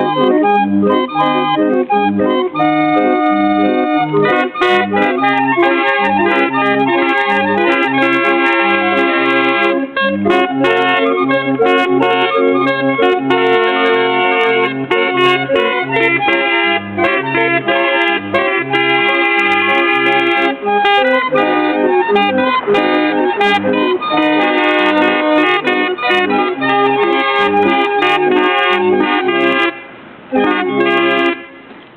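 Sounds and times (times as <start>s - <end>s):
barrel organ playing a tune: 0.0s - 31.5s.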